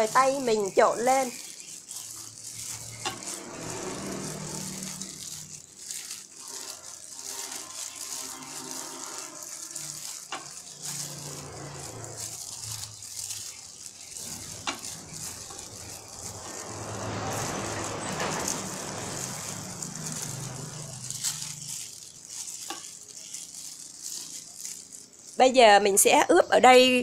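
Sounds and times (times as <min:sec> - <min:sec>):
pulp squishing: 0:00.0 - 0:25.8
plastic glove rustling: 0:00.0 - 0:27.0.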